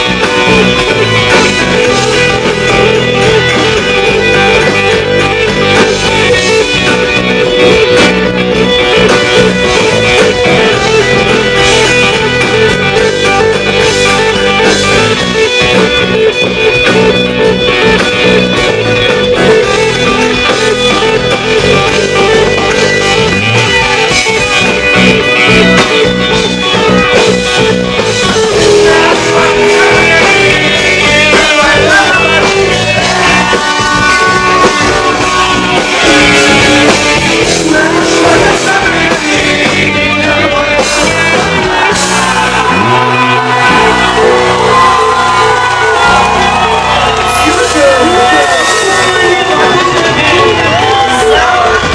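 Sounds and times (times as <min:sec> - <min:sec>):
rock song with guitar: 0:00.0 - 0:51.9.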